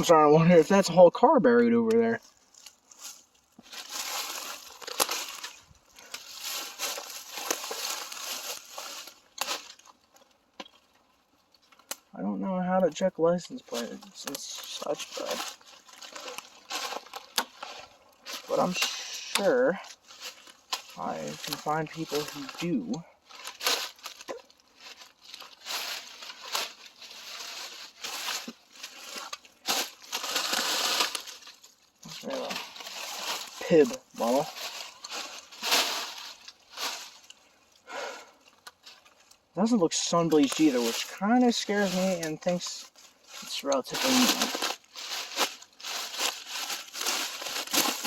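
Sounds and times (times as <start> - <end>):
dry leaves crunching: 2.1 - 48.0.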